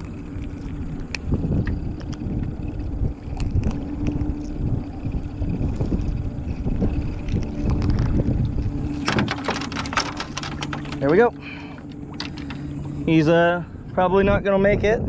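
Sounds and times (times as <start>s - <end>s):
boat motor idling: 0.0s - 14.9s
wind buffeting microphone: 0.0s - 15.0s.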